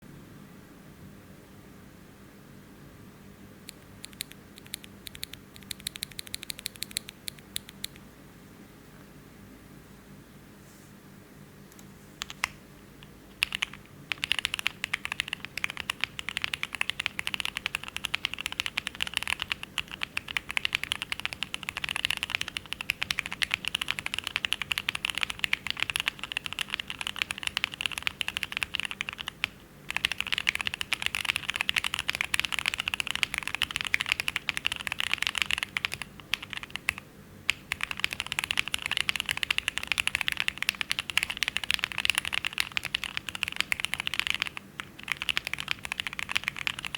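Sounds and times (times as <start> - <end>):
mechanical keyboard typing: 3.7 - 8.0, 12.2 - 12.5, 13.3 - 46.9.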